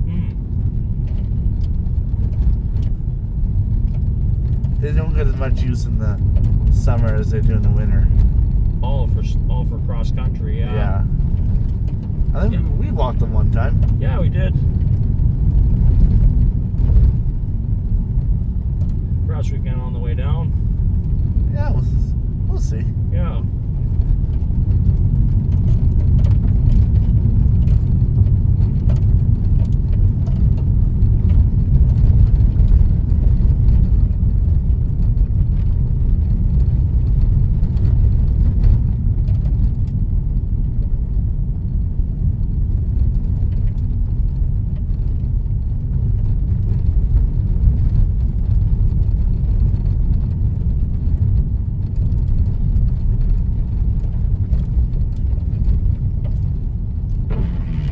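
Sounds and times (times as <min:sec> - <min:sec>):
car interior road rumble: 0:00.0 - 0:57.9.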